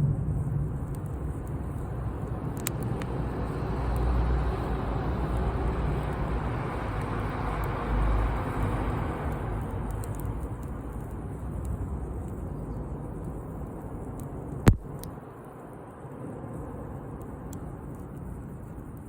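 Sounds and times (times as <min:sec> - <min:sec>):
fire crackles: 0:00.0 - 0:19.0
fire flames rushing: 0:00.0 - 0:19.0.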